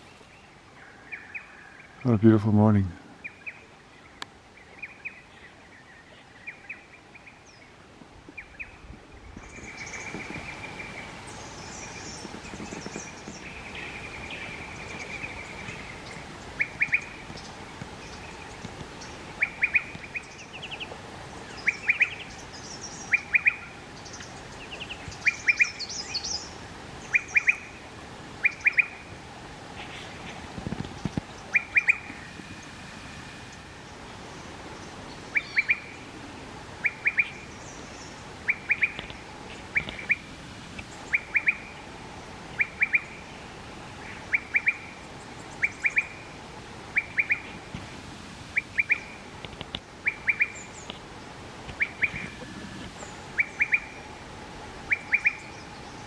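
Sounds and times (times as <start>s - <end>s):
birds twittering: 0.0s - 29.1s, 29.8s - 47.7s, 48.5s - 54.2s, 54.8s - 56.0s.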